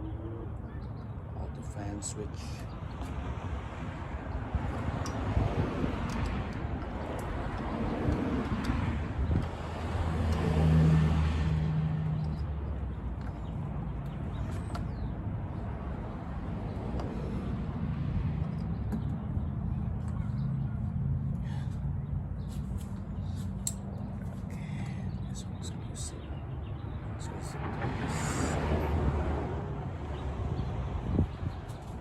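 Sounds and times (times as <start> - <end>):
vehicle passing: 3.0 - 26.1, 26.8 - 32.0.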